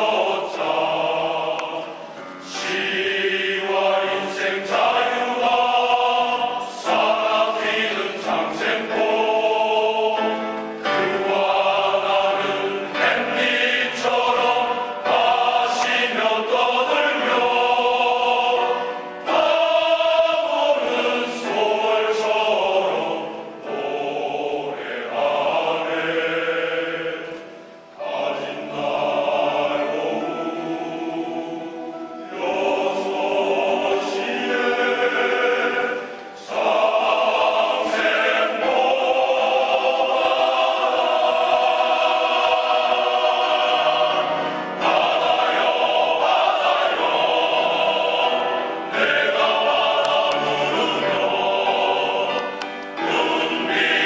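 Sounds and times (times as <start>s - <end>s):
men's choir singing: 0.0s - 54.0s.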